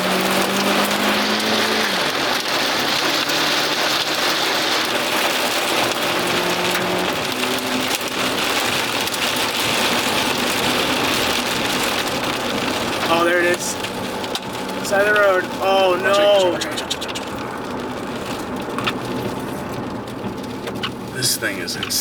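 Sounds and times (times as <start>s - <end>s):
car engine hum: 0.0s - 22.0s
heavy rain on a car: 0.0s - 22.0s.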